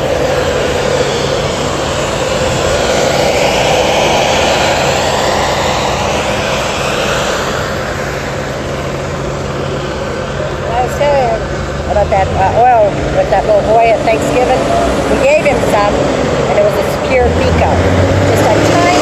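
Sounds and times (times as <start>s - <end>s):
broad rushing noise: 0.0s - 19.0s
helicopter engine and rotor hum: 0.0s - 19.0s.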